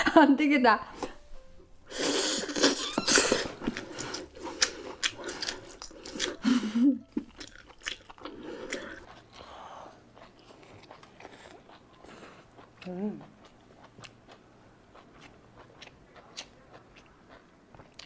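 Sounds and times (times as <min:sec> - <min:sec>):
close chewing with mouth clicks: 0:02.5 - 0:18.0.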